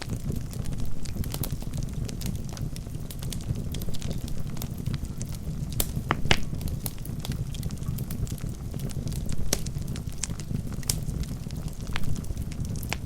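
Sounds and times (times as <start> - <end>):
logs crackling and popping: 0.0 - 13.0
low rumble of flames: 0.0 - 13.0.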